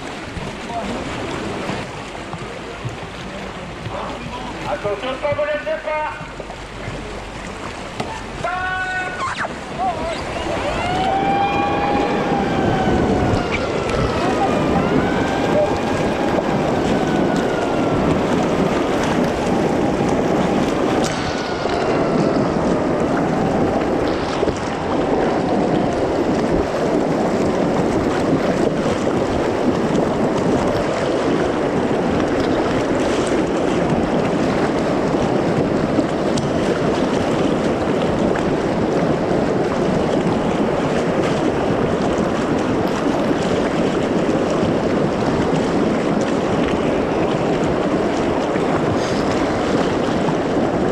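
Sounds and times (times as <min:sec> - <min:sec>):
river water rushing: 0:00.0 - 0:50.9
water splashing: 0:00.0 - 0:50.9.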